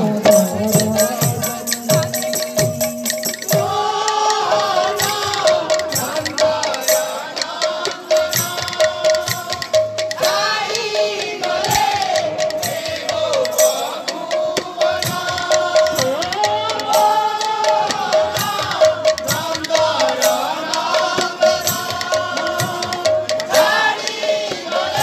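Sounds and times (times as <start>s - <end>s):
barrel drums: 0.0s - 25.0s.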